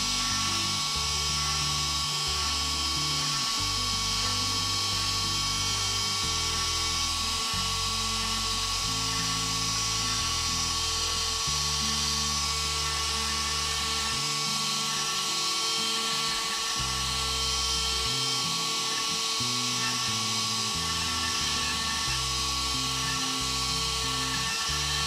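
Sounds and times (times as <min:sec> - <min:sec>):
background music with bass line: 0:00.0 - 0:25.0
router spindle high whine: 0:00.0 - 0:25.0.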